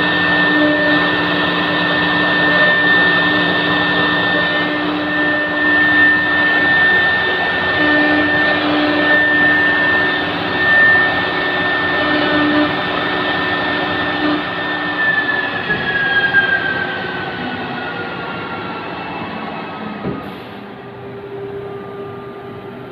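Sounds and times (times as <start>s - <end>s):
router spindle high whine: 0.0s - 22.9s.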